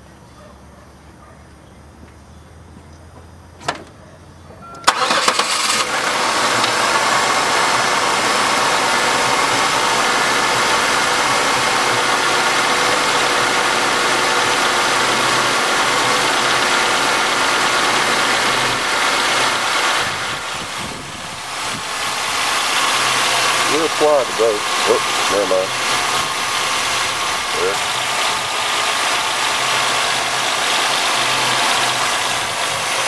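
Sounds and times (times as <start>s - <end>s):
car engine idling: 2.6s - 33.0s
car engine cranking and starting: 3.5s - 33.0s.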